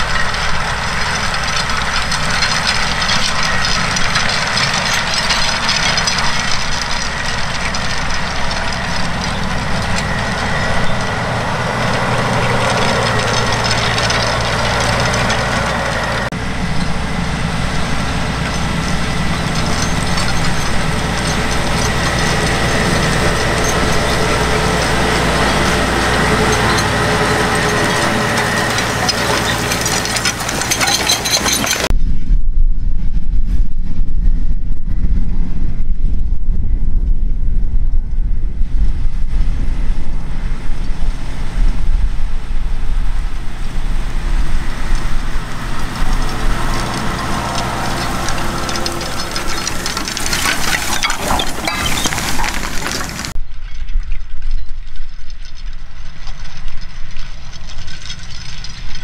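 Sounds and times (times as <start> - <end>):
loud low rumble: 0.0 - 30.8, 31.8 - 53.5
disc harrow noise: 0.0 - 31.9, 38.6 - 54.0, 54.6 - 59.0
tractor diesel engine under load: 0.0 - 31.9, 39.1 - 53.4, 56.2 - 59.0.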